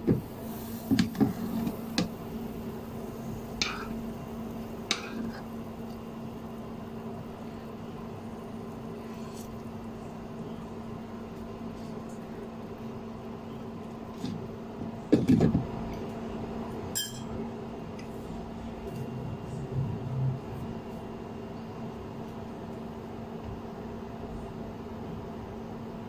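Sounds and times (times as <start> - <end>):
induction cooktop hum: 0.0 - 26.0.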